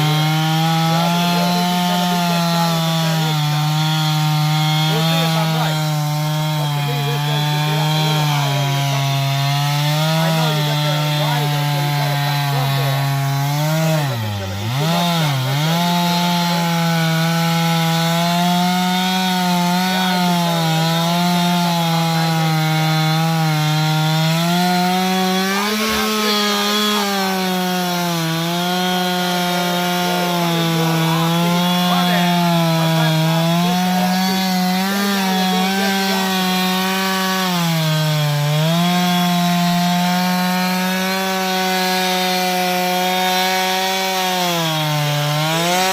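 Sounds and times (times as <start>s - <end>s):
chainsaw cutting log: 0.0s - 45.9s.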